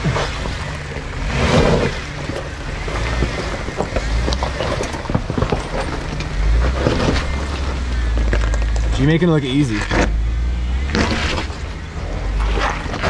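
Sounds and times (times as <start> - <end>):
engine low rumble: 0.0 - 13.0
rocks crunching under tyres: 0.0 - 13.0.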